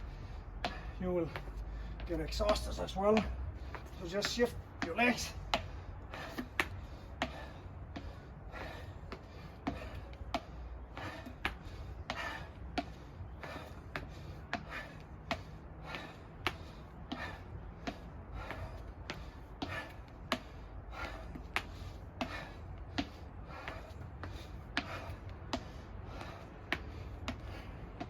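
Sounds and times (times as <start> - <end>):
hissy breaths: 0.0 - 28.0
steady low hum: 0.0 - 28.0.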